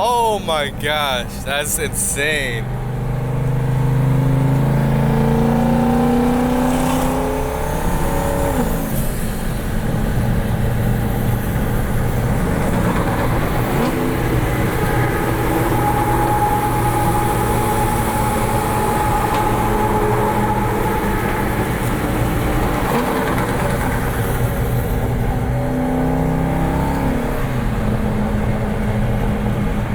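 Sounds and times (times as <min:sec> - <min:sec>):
car engine accelerating: 0:02.6 - 0:29.9.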